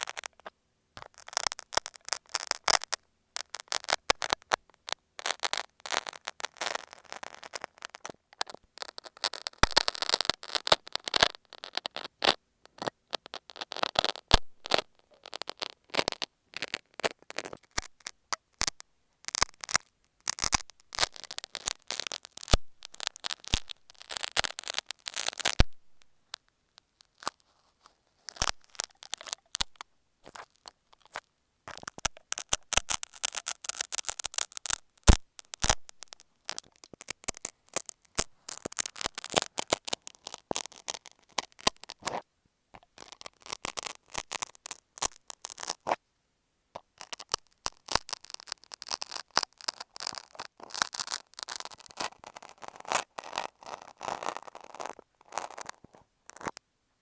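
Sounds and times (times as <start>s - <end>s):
knife scraping on tape: 0.0s - 4.5s, 5.2s - 18.7s, 19.3s - 25.7s, 27.0s - 42.2s, 42.8s - 46.0s, 47.0s - 56.6s.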